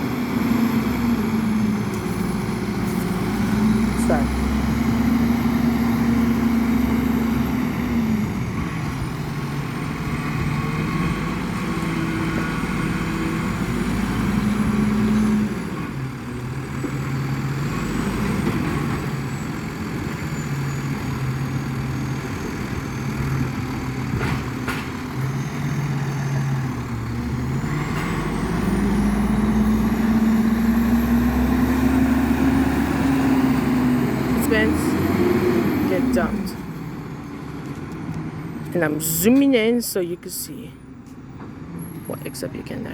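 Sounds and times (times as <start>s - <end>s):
garbage truck engine running: 0.0s - 42.9s.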